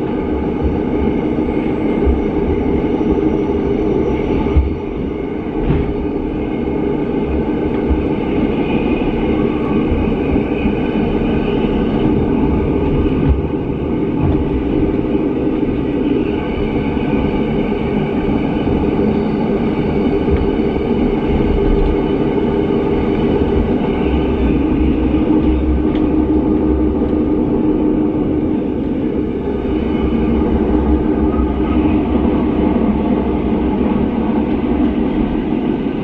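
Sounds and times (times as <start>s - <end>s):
steady train whine: 0.0s - 36.0s
train wheels rumbling on rail: 0.0s - 36.0s.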